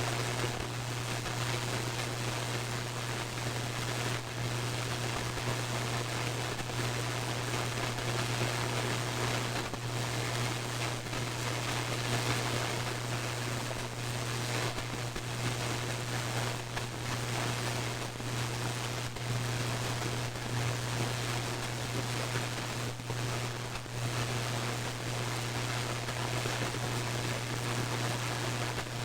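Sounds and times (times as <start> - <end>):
static crackles: 0.0 - 29.0.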